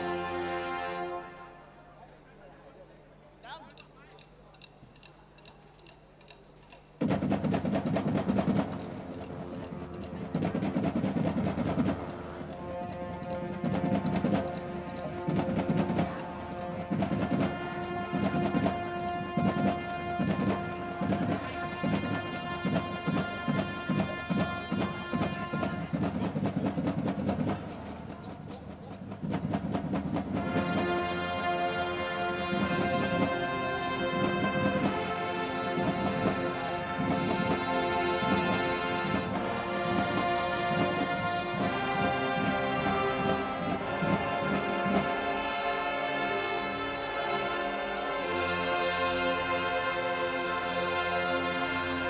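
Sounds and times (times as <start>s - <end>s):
brass chords: 0.0s - 4.2s, 7.0s - 52.0s
marching band playing: 0.0s - 52.0s
snare and bass drums: 3.5s - 47.2s.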